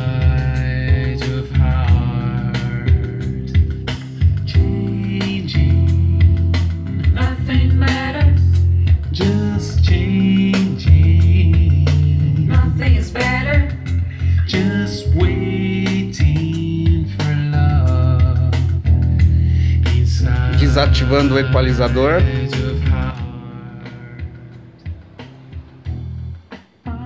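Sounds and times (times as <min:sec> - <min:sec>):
deep bass line: 0:00.0 - 0:26.5
guitar: 0:00.0 - 0:27.0
slow song with singer: 0:00.0 - 0:27.0.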